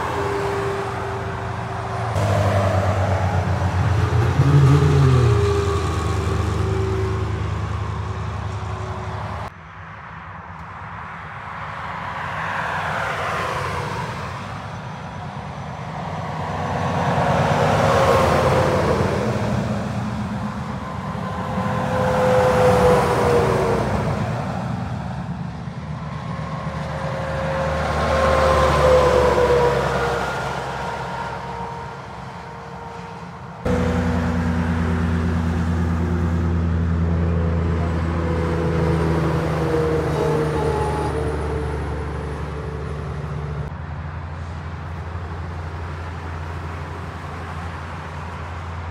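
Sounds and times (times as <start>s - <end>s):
truck engine drone: 0.0s - 11.0s, 13.8s - 48.9s
trucks passing on motorway: 0.0s - 48.9s.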